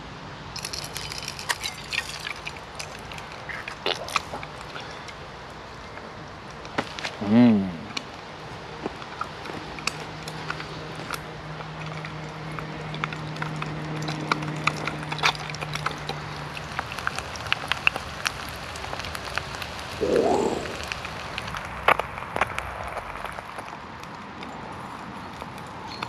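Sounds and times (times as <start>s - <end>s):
wood stove crackling and popping: 0.5s - 7.2s, 7.9s - 26.0s
egg frying in oil: 0.6s - 6.7s, 8.0s - 24.2s.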